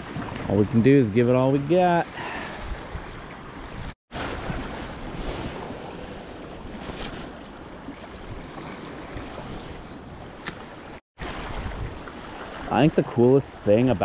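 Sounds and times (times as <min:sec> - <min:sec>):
waves washing against shore: 0:00.0 - 0:14.0
wind: 0:00.0 - 0:14.0.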